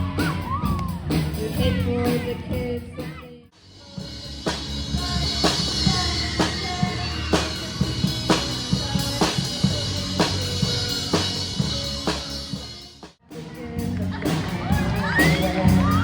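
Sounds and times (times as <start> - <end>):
bass line: 0.0 - 16.0
drum kit beat: 0.0 - 16.0.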